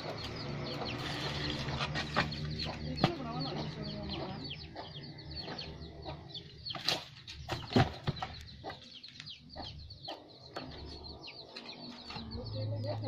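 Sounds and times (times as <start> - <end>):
birds chirping rapidly: 0.0 - 13.0.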